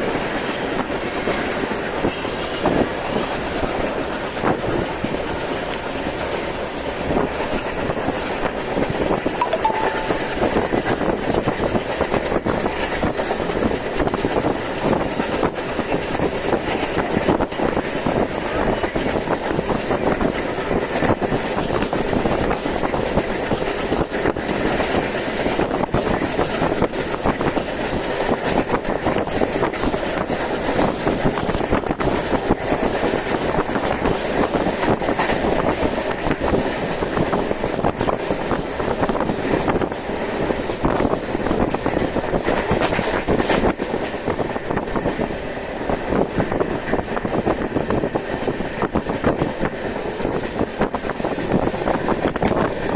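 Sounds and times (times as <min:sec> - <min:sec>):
train wheels rumbling on rails: 0:00.0 - 0:09.4, 0:10.6 - 0:52.9.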